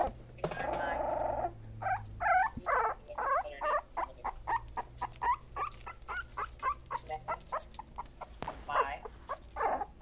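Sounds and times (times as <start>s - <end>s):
puppy whimpering: 0.0s - 10.0s.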